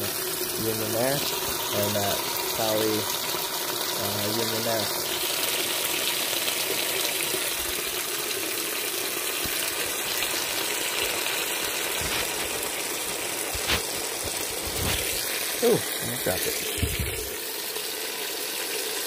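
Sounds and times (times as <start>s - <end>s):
water rushing: 0.0s - 18.4s.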